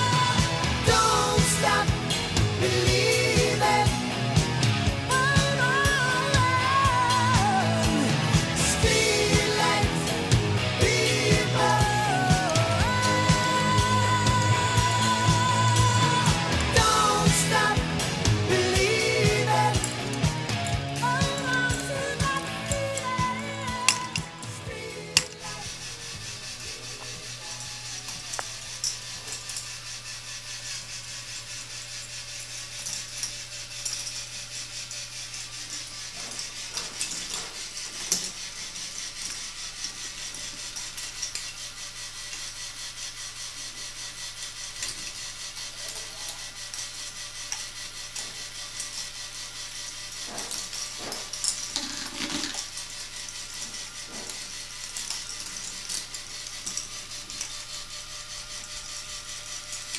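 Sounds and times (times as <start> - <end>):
balls rattling on plastic tracks: 0.0 - 59.9.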